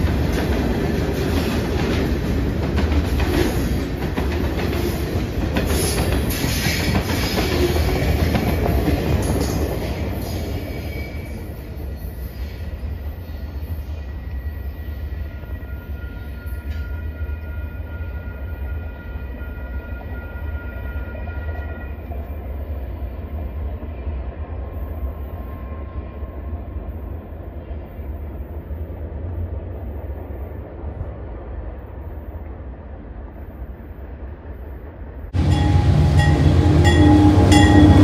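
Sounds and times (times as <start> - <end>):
train cars rumbling on rails: 0.0 - 38.0.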